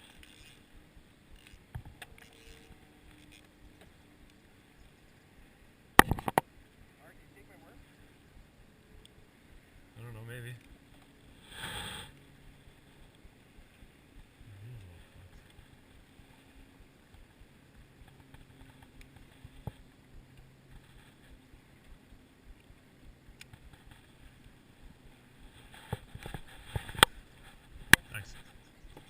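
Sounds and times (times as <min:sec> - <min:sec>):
faint low hum: 0:00.0 - 0:29.0
rustle: 0:00.0 - 0:29.0.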